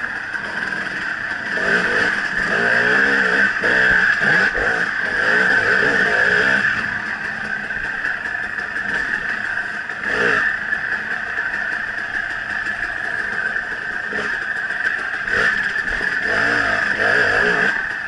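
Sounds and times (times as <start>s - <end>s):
dirt bike engine revving: 0.0s - 18.0s
steady high-pitched whine: 0.0s - 18.0s.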